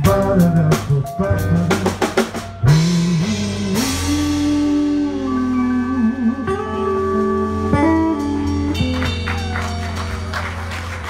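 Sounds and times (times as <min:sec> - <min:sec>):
bending guitar line: 0:00.0 - 0:11.0
soul band playing: 0:00.0 - 0:11.0.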